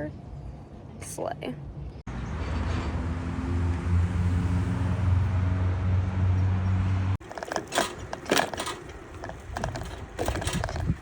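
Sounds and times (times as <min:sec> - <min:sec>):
road noise: 0:00.0 - 0:11.0
vehicle engine hum: 0:01.8 - 0:11.0.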